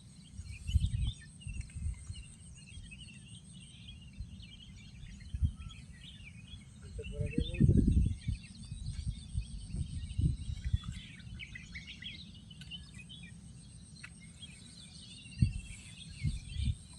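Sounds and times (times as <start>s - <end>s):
songbirds chirping and twittering: 0.0s - 16.9s.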